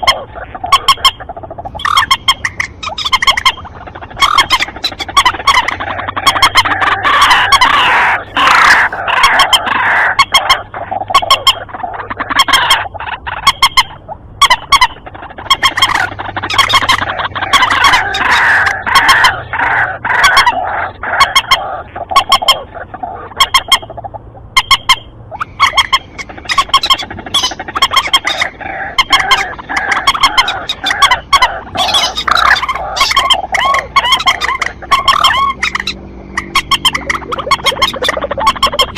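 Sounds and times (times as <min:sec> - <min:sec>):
waterhens and moorhens calling: 0:00.0 - 0:38.9.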